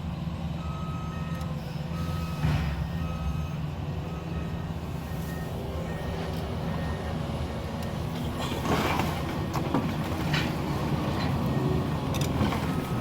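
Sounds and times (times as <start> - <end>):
diesel machine running: 0.0 - 13.0.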